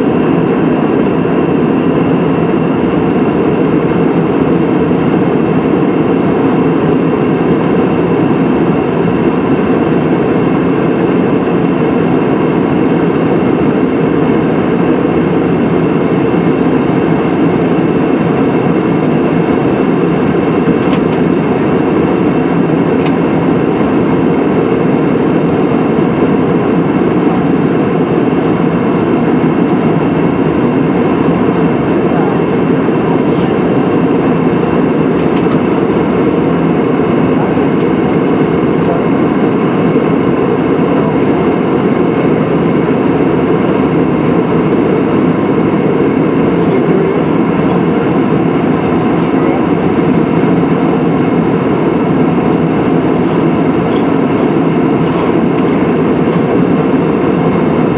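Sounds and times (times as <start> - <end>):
airliner cabin noise: 0.0 - 57.9.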